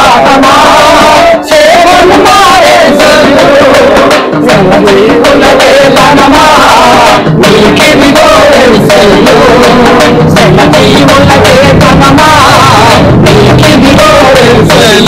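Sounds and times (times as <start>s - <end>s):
hand drum beating: 0.0s - 15.0s
men singing together: 0.0s - 15.0s.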